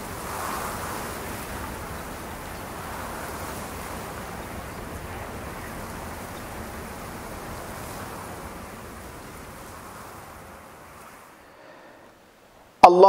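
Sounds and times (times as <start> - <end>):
steady rushing noise: 0.0 - 12.8.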